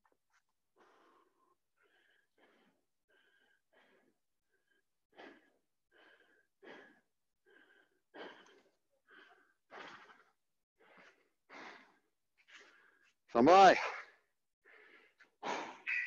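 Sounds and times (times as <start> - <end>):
person panting: 0.8 - 13.2, 14.0 - 15.9.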